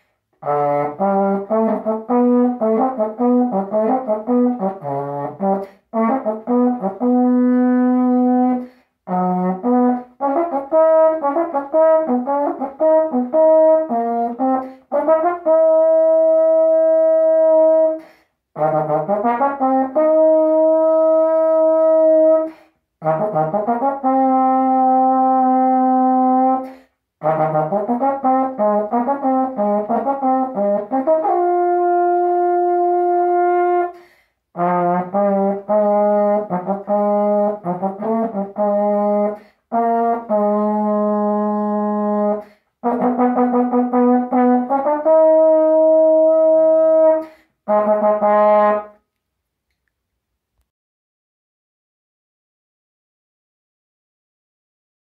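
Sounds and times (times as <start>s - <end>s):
tenor horn melody: 0.4s - 49.2s.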